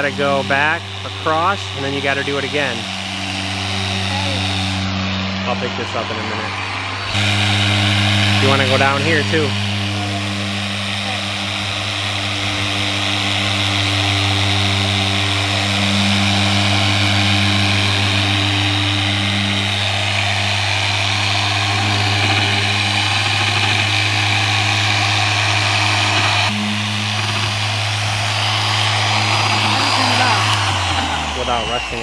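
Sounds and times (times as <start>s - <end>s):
electric polisher motor hum: 0.0s - 32.0s.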